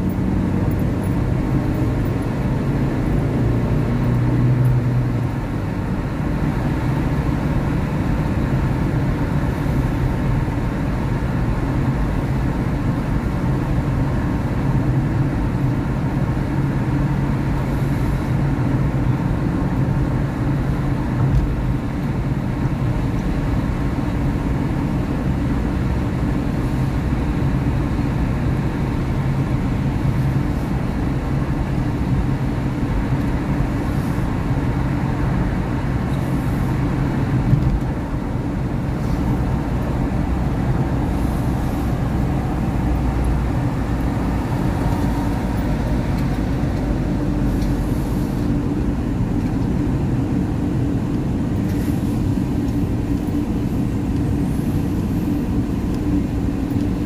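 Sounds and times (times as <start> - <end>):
car engine and tyres drone: 0.0 - 57.0.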